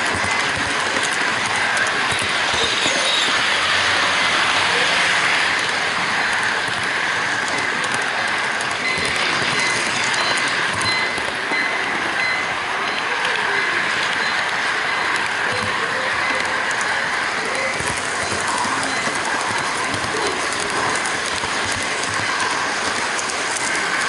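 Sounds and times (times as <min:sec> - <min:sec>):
model train wheels rattling on rail: 0:00.0 - 0:24.0.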